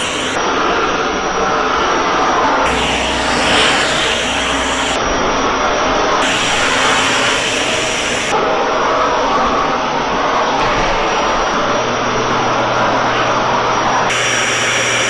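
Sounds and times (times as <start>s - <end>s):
vacuum cleaner running: 0.0s - 9.0s, 10.3s - 15.0s.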